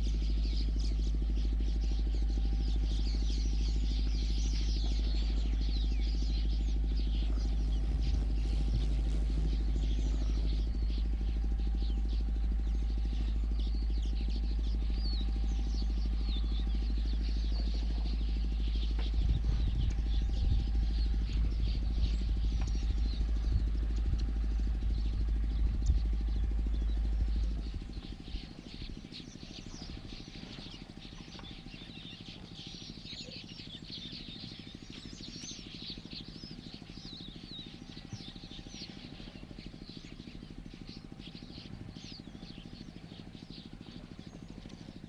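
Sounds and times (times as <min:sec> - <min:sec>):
uneven low rumbling: 0:00.0 - 0:45.0
vehicle engine idling: 0:00.0 - 0:45.0.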